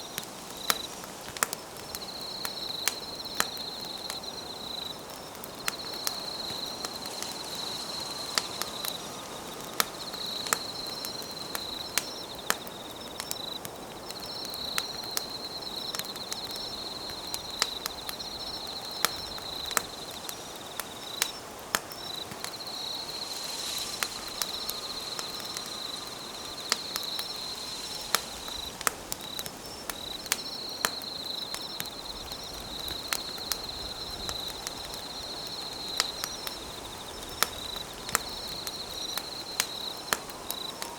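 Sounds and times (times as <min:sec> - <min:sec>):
campfire crackling and popping: 0:00.0 - 0:40.9
insects trilling: 0:00.0 - 0:40.9.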